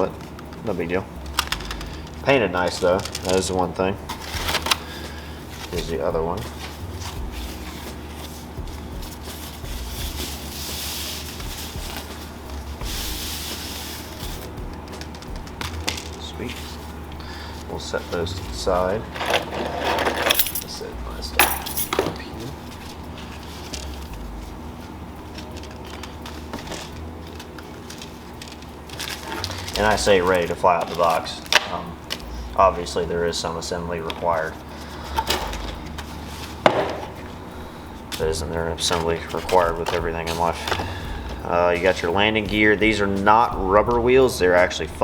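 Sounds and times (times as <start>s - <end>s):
packaging rustling and scraping: 0.0s - 42.4s
low steady hum: 0.0s - 45.0s.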